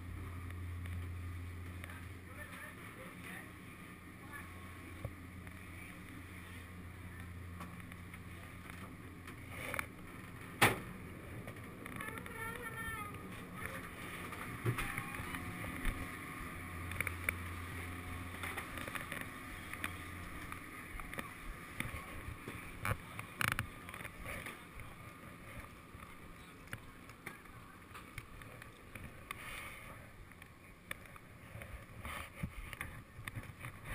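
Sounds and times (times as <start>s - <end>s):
low machinery hum: 0.0s - 33.9s.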